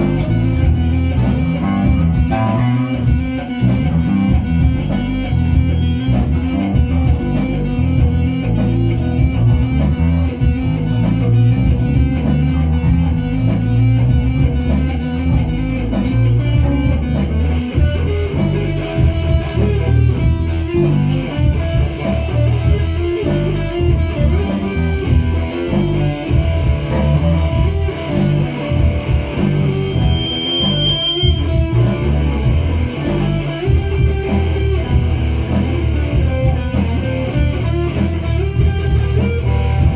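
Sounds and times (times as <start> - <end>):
bass guitar: 0.0 - 39.9
electric guitar: 0.0 - 39.9.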